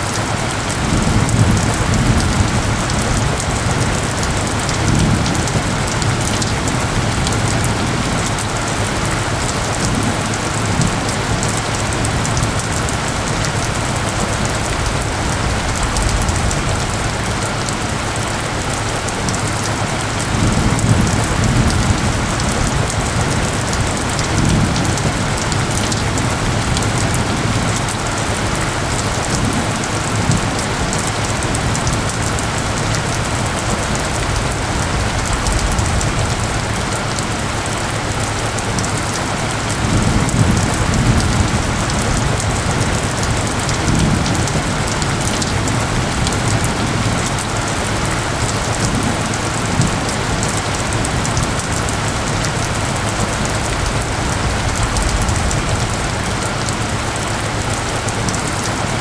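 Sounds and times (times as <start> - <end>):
dense rain pattering: 0.0 - 59.0.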